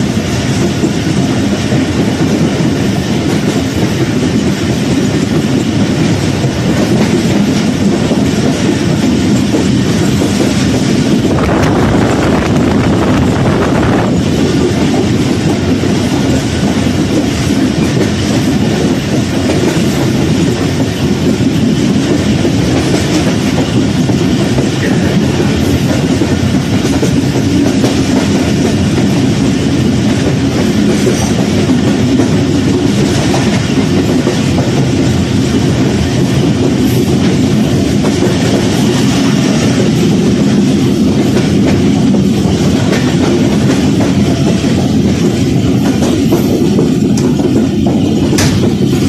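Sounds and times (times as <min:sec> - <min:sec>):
train wheels clickety-clack: 0:00.0 - 0:49.0
train wheels rumbling on rails: 0:00.0 - 0:49.0.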